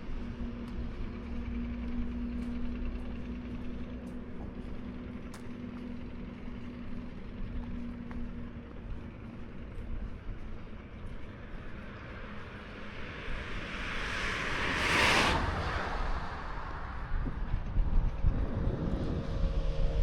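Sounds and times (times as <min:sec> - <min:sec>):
engine hum with low rumble: 0:00.0 - 0:20.0.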